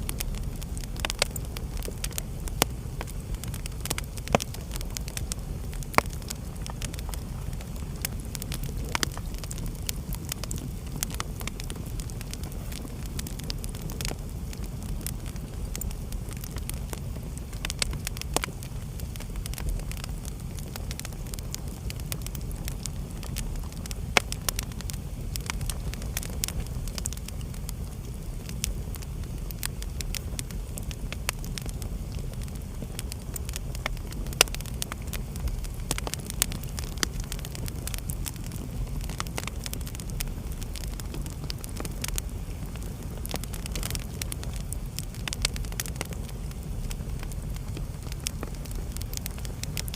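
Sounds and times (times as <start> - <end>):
fire crackling and popping: 0.0 - 49.9
low rumble of flames: 0.0 - 49.9.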